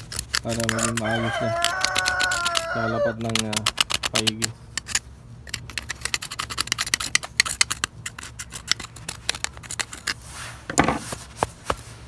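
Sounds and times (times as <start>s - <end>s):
stiff brush scrubbing plastic: 0.0s - 11.8s.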